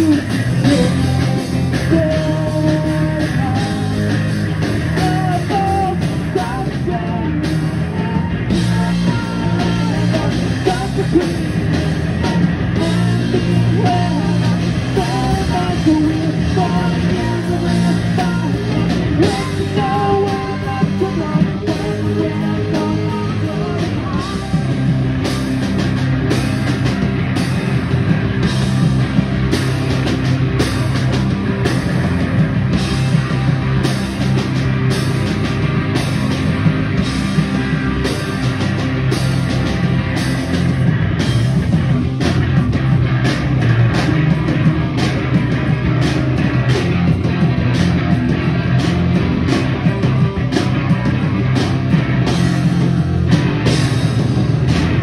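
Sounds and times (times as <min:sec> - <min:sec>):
bass guitar: 0:00.0 - 0:55.0
distorted electric guitars: 0:00.0 - 0:55.0
drum kit: 0:00.0 - 0:55.0.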